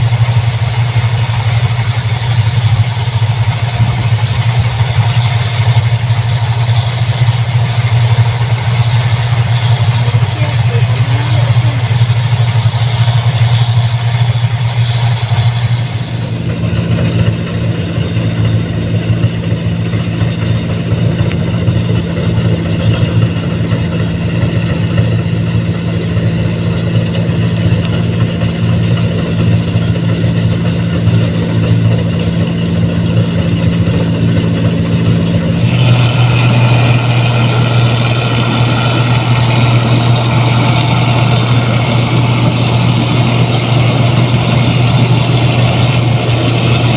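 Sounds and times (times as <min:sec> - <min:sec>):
harvester engine running: 0:00.0 - 0:46.9.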